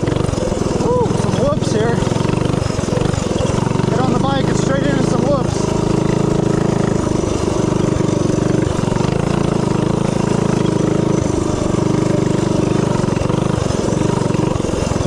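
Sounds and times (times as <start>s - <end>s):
mini bike engine running hard: 0.0s - 15.0s.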